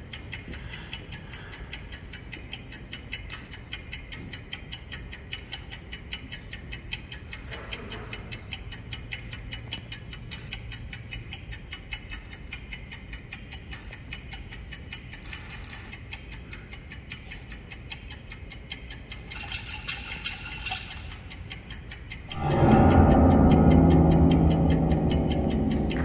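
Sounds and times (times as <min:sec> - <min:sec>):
clock ticking quickly: 0:00.0 - 0:26.0.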